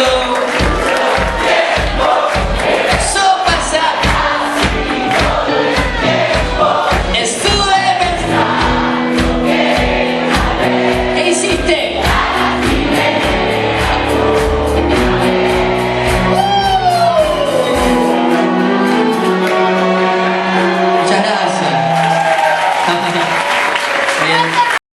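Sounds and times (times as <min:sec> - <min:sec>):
drum beat: 0:00.0 - 0:22.2
live band playing: 0:00.0 - 0:24.8
voices singing: 0:00.7 - 0:21.0.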